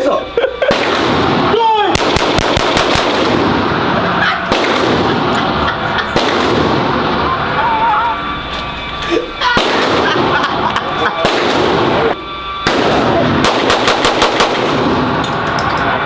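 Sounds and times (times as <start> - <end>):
noisy background: 0.0 - 16.0
gunshots: 0.6 - 7.6, 9.4 - 10.6, 11.2 - 15.9.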